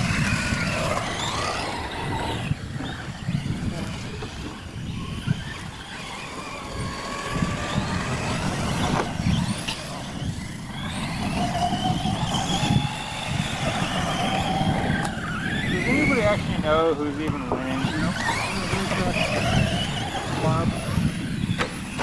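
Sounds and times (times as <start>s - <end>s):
rc truck motor whine: 0.0s - 22.0s.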